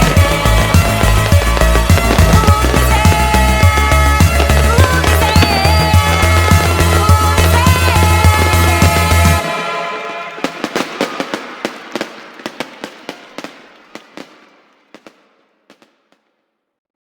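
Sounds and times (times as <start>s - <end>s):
fireworks hiss: 0.0s - 15.8s
fireworks crackling: 0.0s - 16.5s.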